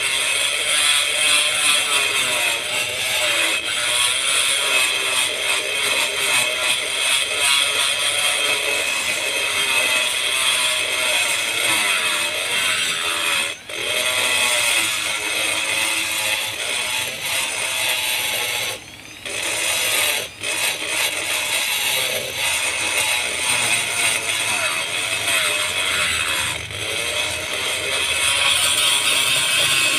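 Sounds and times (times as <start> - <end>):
power tool whining: 0.0 - 29.9.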